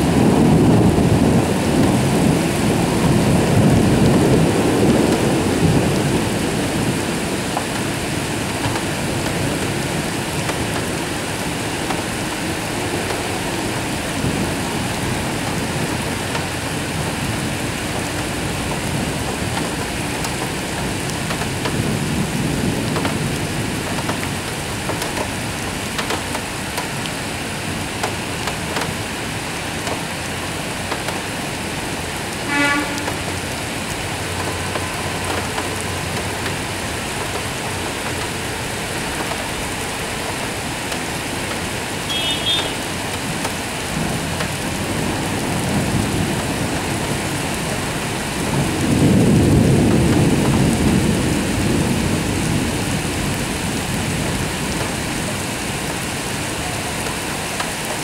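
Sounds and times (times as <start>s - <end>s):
steady rain: 0.0s - 58.0s
thunder rumbling: 0.0s - 58.0s.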